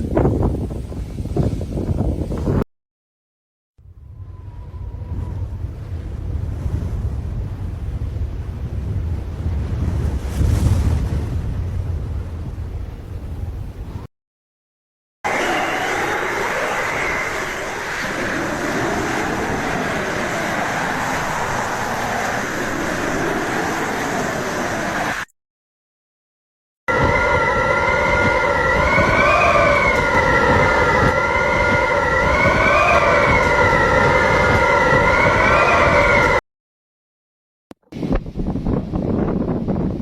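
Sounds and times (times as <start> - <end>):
howling wind: 0.0 - 2.6, 3.8 - 14.1, 15.3 - 25.3, 26.9 - 36.4, 38.0 - 40.0
whistling wind: 0.0 - 2.7, 3.8 - 14.1, 15.2 - 25.3, 26.9 - 36.4, 37.9 - 40.0.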